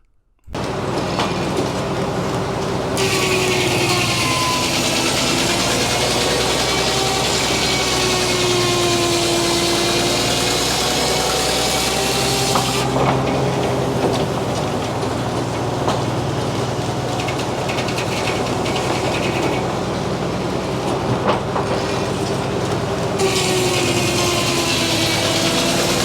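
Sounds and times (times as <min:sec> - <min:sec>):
sawmill blade drone: 0:00.6 - 0:26.0.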